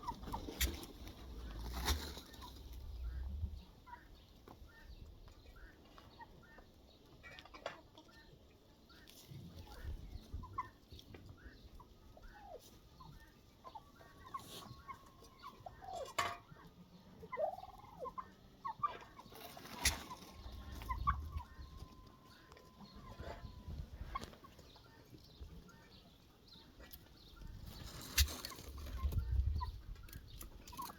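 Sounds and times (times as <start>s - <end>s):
poultry calling: 0.0s - 30.9s.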